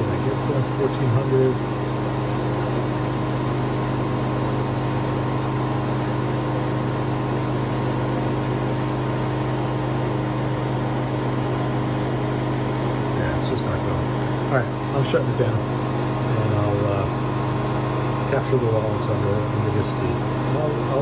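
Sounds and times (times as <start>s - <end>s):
freeze dryer machine hum: 0.0s - 21.0s.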